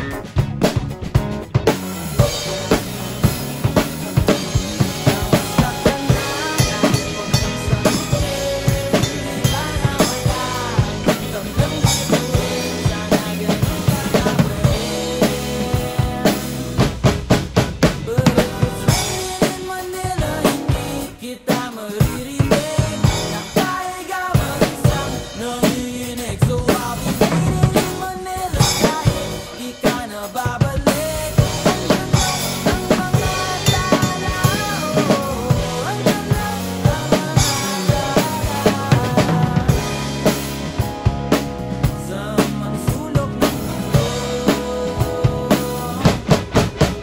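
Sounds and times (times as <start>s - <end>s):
acoustic drum kit groove: 0.0s - 47.0s
pop song with singing: 2.1s - 47.0s.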